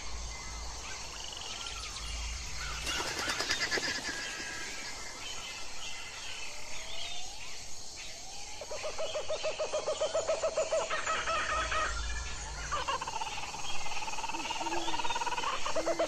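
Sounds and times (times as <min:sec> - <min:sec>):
bird calls: 0:00.0 - 0:07.7, 0:08.5 - 0:16.0.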